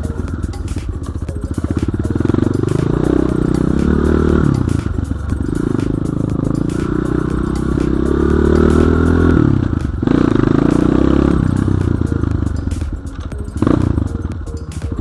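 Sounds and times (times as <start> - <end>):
dirt bike engine revving: 1.2 - 12.8, 13.6 - 14.4.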